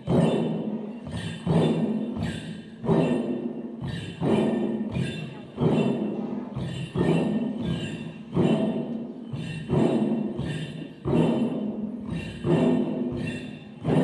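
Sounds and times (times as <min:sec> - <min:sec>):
barrel drums beaten in rhythm: 0:00.0 - 0:14.0.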